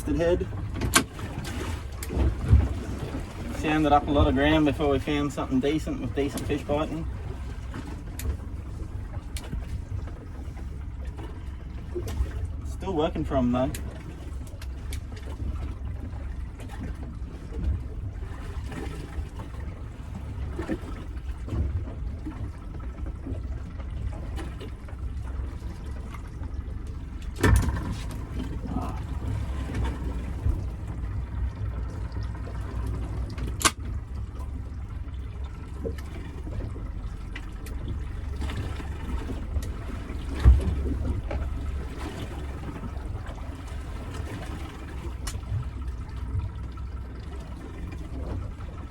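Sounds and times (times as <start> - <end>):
sharp knocks against boat: 0.0 - 4.6, 6.2 - 12.6, 13.6 - 34.6, 35.7 - 46.9
steady low rumble: 0.0 - 48.9
water lapping against boat hull: 0.0 - 48.9.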